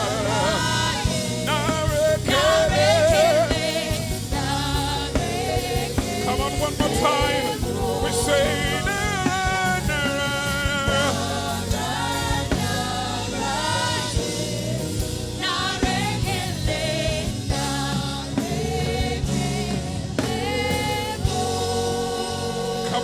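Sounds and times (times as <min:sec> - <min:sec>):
lead singer and congregation singing: 0:00.0 - 0:23.0
live band playing: 0:00.0 - 0:23.0.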